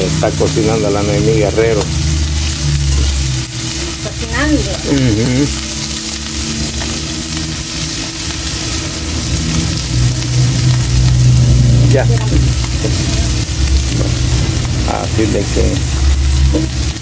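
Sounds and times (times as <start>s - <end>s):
food sizzling in a pan: 0.0s - 17.0s
low rumble: 0.0s - 17.0s.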